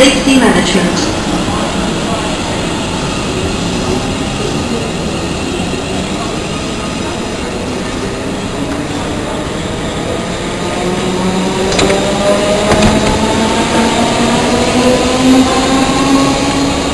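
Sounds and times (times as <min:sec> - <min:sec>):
train traction motors whining: 0:01.0 - 0:16.1.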